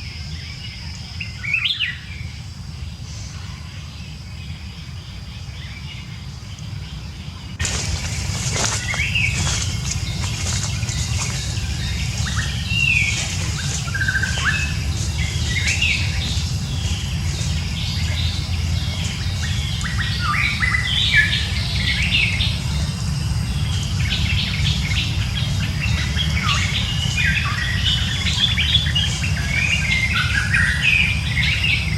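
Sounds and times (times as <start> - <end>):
low background rumble: 0.0 - 31.9
small birds chirping: 0.0 - 31.9.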